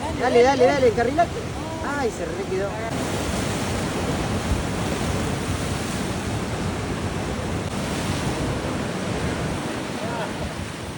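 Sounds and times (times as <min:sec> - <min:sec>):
ocean surf breaking: 0:00.0 - 0:10.9
wind buffeting microphone: 0:00.0 - 0:10.9.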